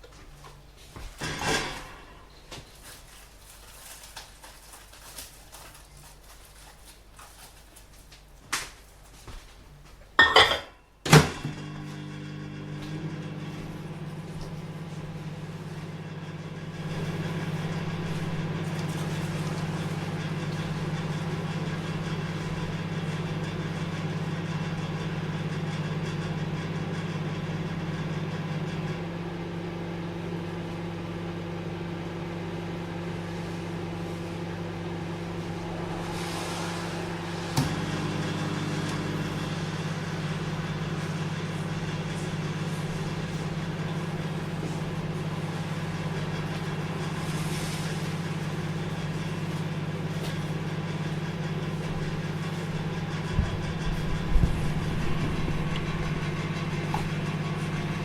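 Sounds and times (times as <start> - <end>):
microwave oven humming: 0.0 - 58.0.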